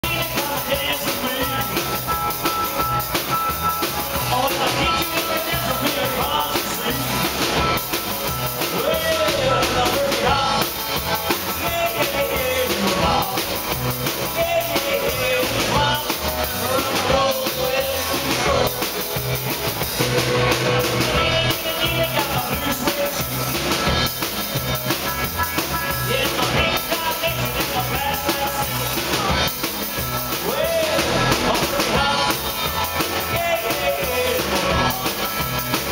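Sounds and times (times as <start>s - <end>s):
driving drum beat: 0.0s - 35.9s
live rock band playing: 0.0s - 35.9s.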